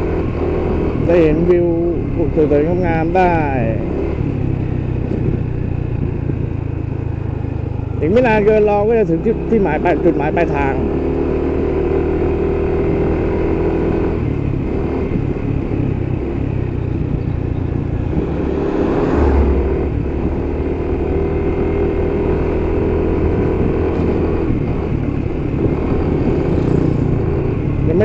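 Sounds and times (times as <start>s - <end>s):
road and wind noise: 0.0s - 28.0s
vehicle engine running: 0.0s - 28.0s.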